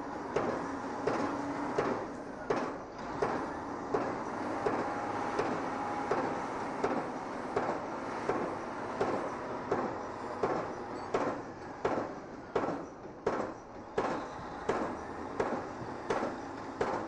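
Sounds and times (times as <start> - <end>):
mechanical knocking: 0.3 - 17.0.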